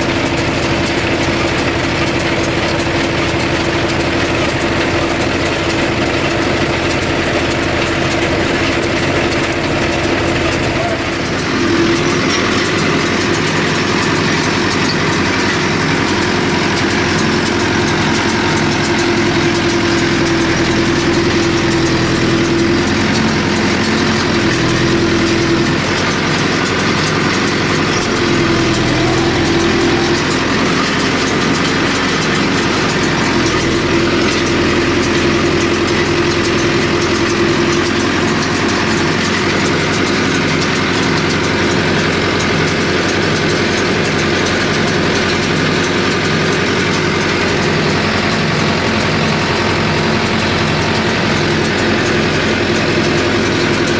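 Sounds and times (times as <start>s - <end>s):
tractor and baler mechanical drone: 0.0s - 53.9s.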